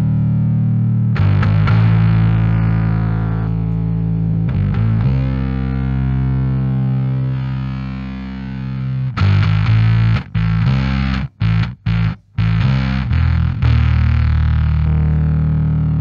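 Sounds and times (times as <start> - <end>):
fuzz bass guitar notes: 0.0 - 16.0.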